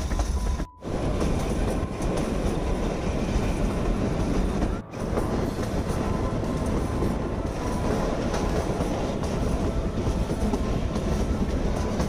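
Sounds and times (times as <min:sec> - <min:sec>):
train running along track: 0:00.0 - 0:12.0.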